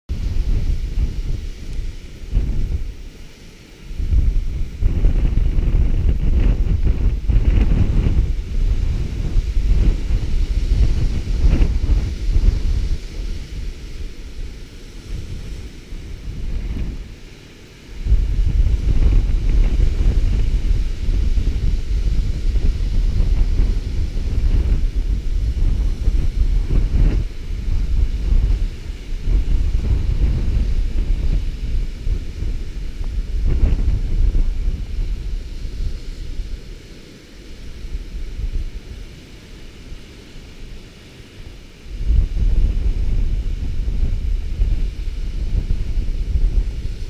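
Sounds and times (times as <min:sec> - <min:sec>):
strong wind buffeting microphone: 0:00.1 - 0:47.0
surf breaking on rocks: 0:00.1 - 0:47.0.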